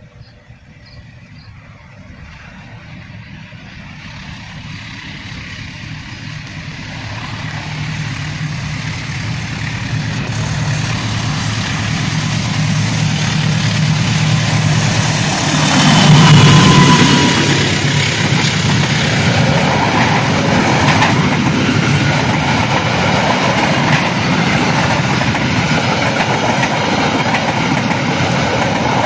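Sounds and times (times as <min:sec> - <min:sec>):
diesel locomotive engine drone: 0:00.0 - 0:29.0.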